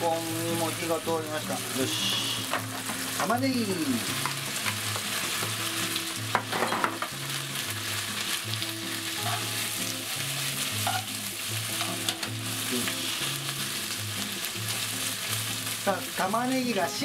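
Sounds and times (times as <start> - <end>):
onion and bacon sizzling in pan: 0.0 - 17.0.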